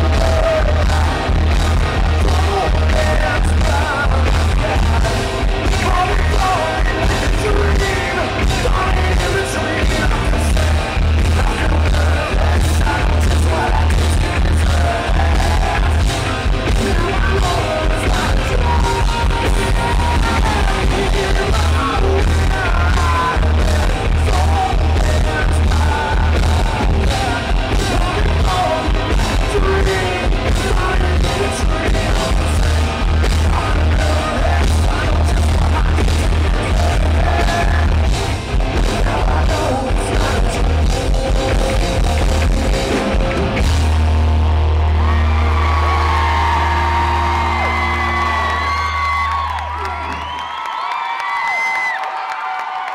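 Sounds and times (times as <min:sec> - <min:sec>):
man singing lead: 0:00.0 - 0:43.6
heavy pulsing bass: 0:00.0 - 0:49.5
electric guitars: 0:00.0 - 0:50.6
drums: 0:00.0 - 0:52.9.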